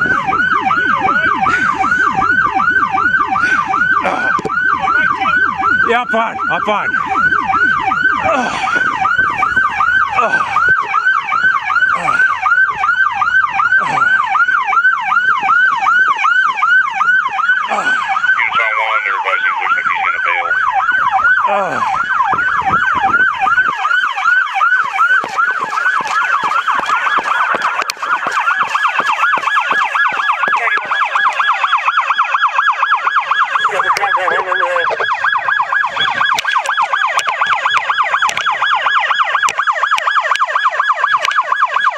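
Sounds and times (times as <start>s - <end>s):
police siren yelping: 0.0s - 41.9s.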